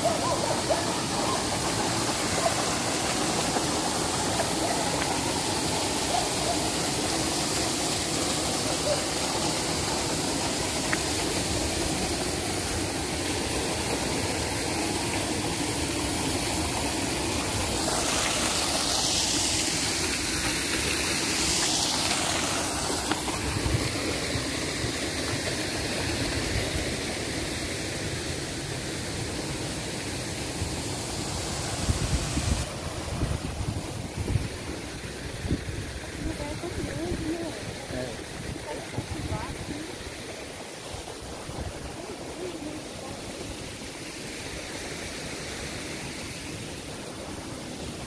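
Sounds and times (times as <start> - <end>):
waterfall rushing over rocks: 0.0 - 48.0.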